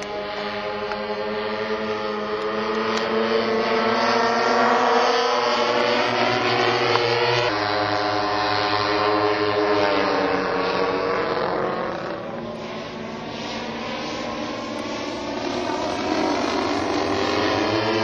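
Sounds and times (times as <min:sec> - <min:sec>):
model airplane engines droning: 0:00.0 - 0:18.0.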